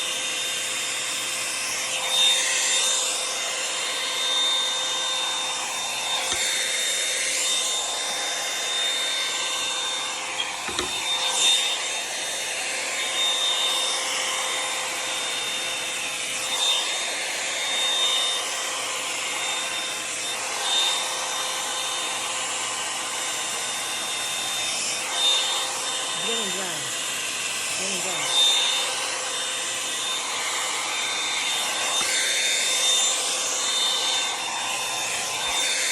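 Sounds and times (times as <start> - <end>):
hair dryer brush whine: 0.0 - 35.9.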